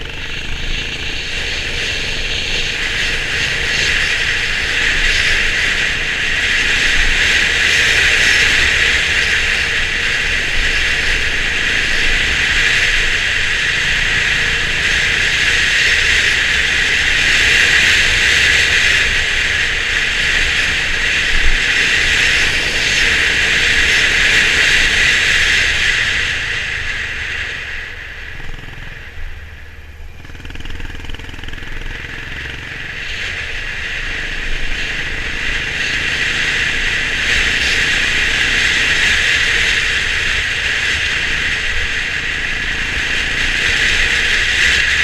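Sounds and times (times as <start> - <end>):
motorcycle low rumble: 0.0 - 45.0
wind and road noise: 0.0 - 45.0.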